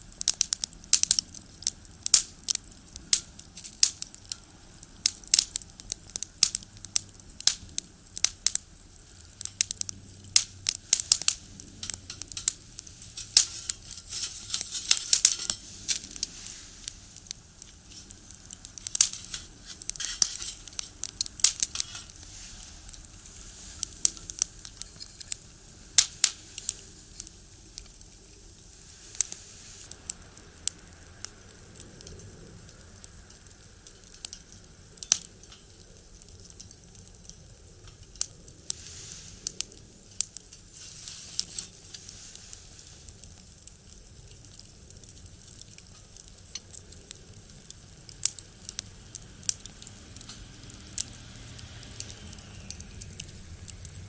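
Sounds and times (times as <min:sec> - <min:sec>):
fire hissing: 0:00.0 - 0:54.0
firewood crackling and popping: 0:00.0 - 0:54.0.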